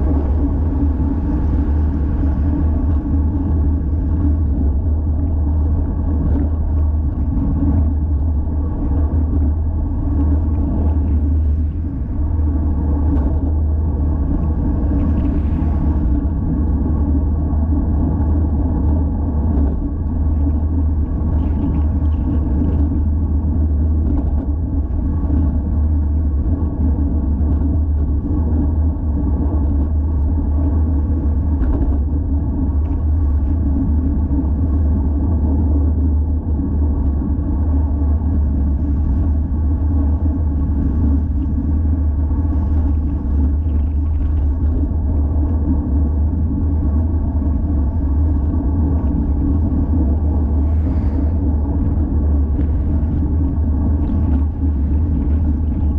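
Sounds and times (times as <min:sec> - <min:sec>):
bicycle road noise: 0:00.0 - 0:55.9
wind buffeting microphone: 0:00.0 - 0:55.9.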